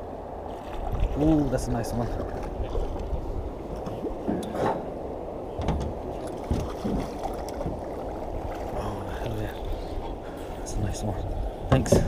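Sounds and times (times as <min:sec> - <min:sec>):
water rumble: 0:00.0 - 0:12.0
wind: 0:00.0 - 0:12.0.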